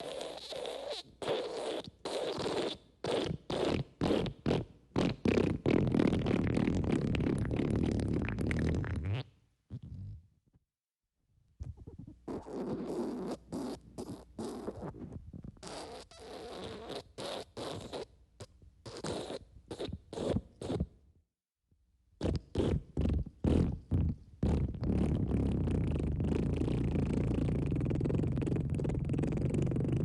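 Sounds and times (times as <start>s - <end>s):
wet fart sounds: 0.0s - 10.3s, 11.6s - 18.1s, 18.9s - 20.9s, 22.2s - 30.0s.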